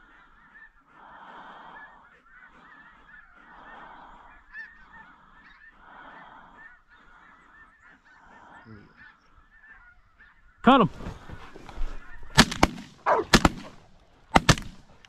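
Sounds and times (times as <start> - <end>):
geese honking: 0.0 - 12.4.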